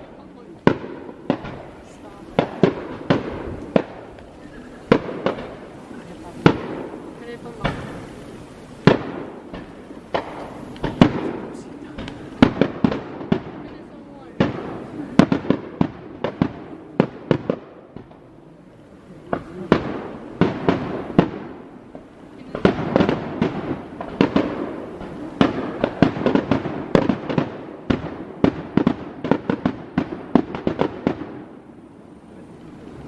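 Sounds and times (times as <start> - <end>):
fireworks bangs and pops: 0.0 - 33.0.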